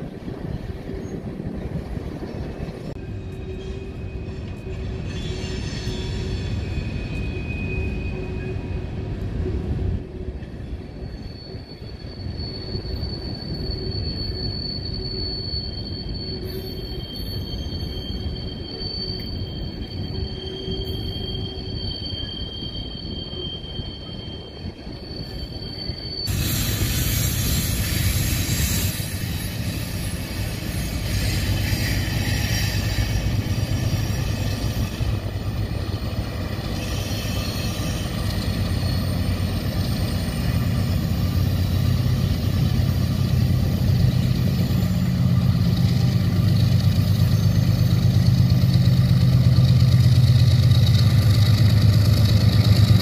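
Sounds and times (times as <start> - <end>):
train wheels rumbling on rail: 0.0 - 53.0
high-pitched wheel squeals: 2.2 - 53.0.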